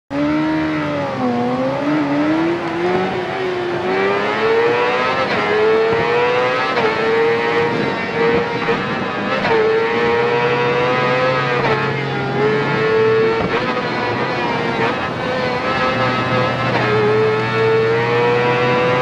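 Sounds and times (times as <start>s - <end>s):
motorcycle engine accelerating: 0.1s - 19.0s.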